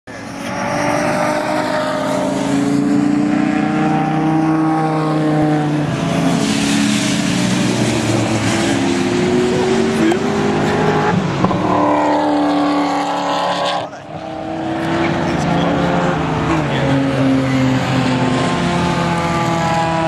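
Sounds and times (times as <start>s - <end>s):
supercharged car engine under load: 0.1s - 20.0s.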